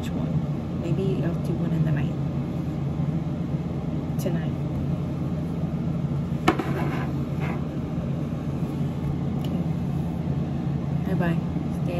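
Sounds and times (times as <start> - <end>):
ceiling fan humming: 0.0 - 11.9.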